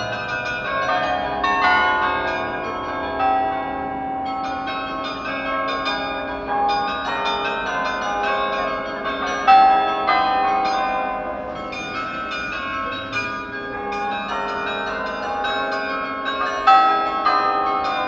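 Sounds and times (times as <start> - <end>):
carillon bells playing a tune: 0.0 - 18.0.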